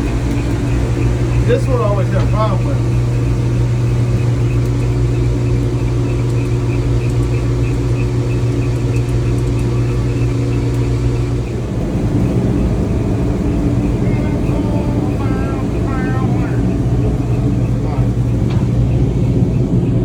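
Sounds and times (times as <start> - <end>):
faint even pulsing: 0.0 - 20.0
machinery drone with low hum: 0.0 - 20.0.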